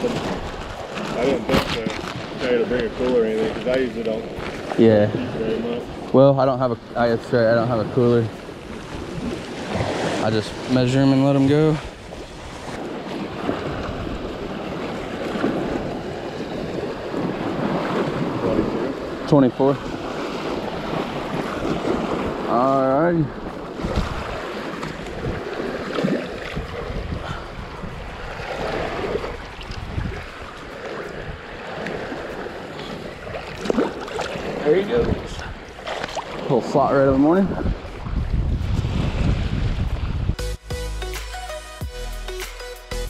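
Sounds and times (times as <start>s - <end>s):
water sloshing and splashing: 0.0s - 22.5s, 23.1s - 40.2s
wind on microphone: 0.0s - 40.5s.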